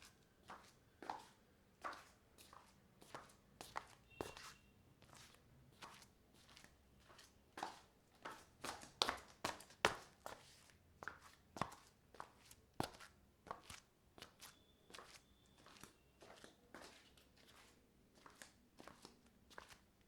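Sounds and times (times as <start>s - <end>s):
slipper footsteps on marble floor: 0.0s - 20.0s.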